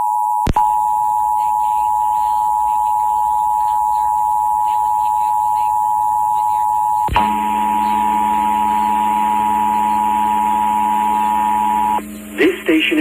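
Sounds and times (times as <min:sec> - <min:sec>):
low hum: 0:00.5 - 0:13.0.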